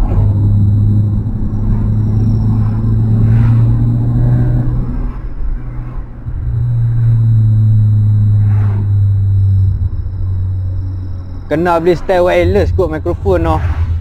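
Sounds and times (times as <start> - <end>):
car engine droning: 0.0 - 14.0
road noise: 0.0 - 14.0.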